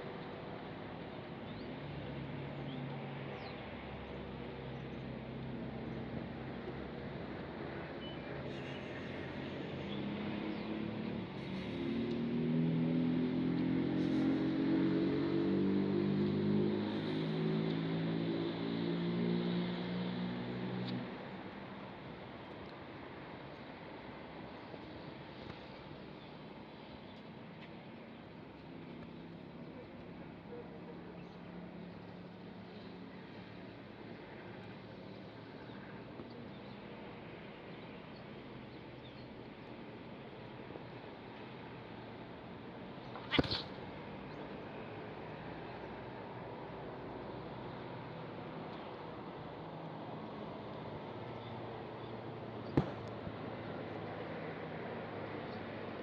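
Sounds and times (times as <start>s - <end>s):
distant traffic noise: 0.0s - 56.0s.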